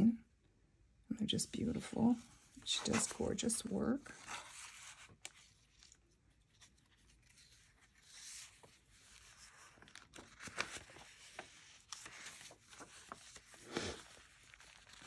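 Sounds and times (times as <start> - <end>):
paper pages rustling: 2.0 - 15.0.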